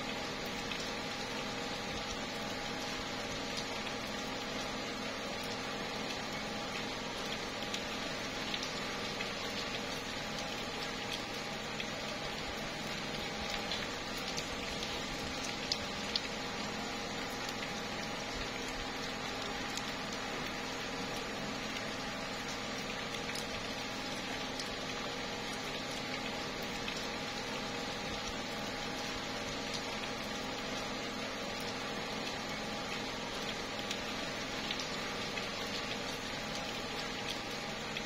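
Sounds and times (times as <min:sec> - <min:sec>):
light rain on leaves: 0:00.0 - 0:38.0.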